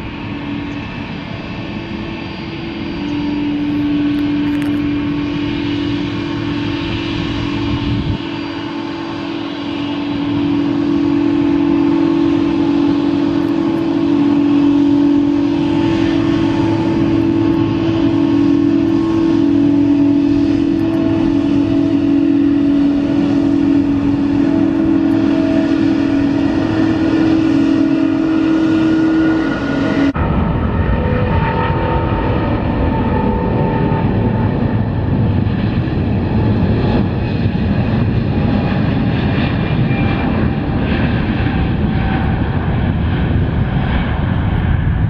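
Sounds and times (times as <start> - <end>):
jet engines droning: 0.0 - 45.0.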